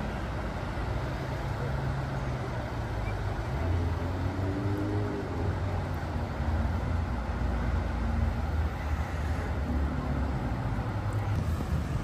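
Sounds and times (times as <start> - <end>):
road traffic rumbling over bridge: 0.0 - 12.0.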